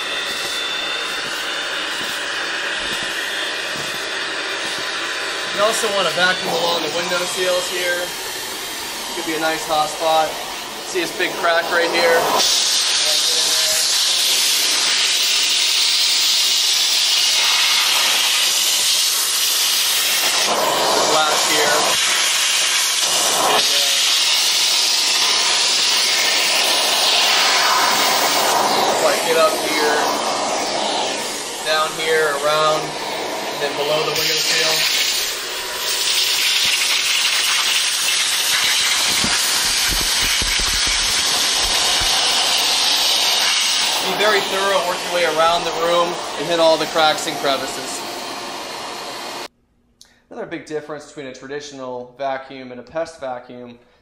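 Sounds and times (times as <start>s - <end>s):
vacuum suction hiss: 0.0s - 49.5s.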